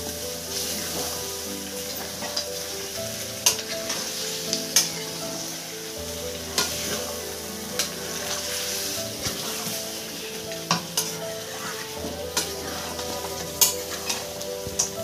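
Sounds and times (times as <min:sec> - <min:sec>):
curry sizzling in a wok: 0:00.0 - 0:15.0.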